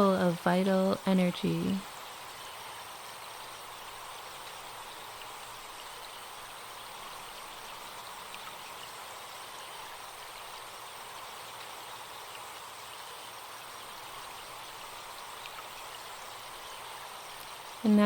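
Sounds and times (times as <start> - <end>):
faint high insect buzz: 0.0 - 18.0
forest stream running: 0.0 - 18.0.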